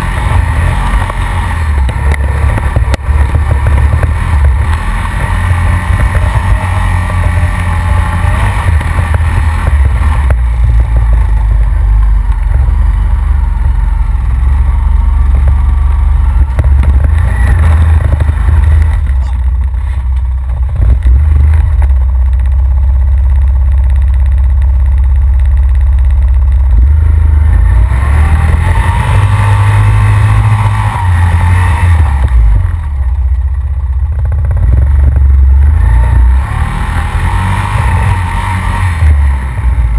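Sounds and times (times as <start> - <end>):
quad engine running on rough trail: 0.0 - 39.9.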